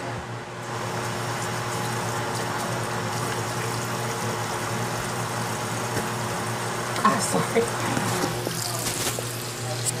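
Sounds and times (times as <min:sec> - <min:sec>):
appliance motor humming: 0:00.0 - 0:10.0.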